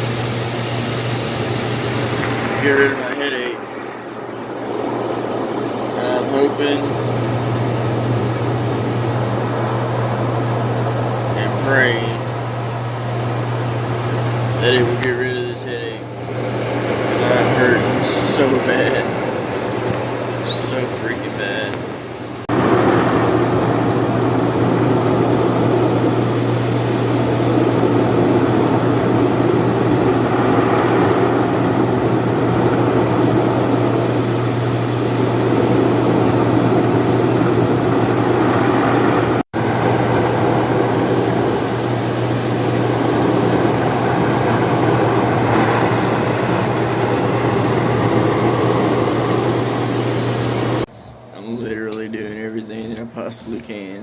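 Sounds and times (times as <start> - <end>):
water jets rushing: 0.0 - 50.9
pump hum: 0.0 - 51.6.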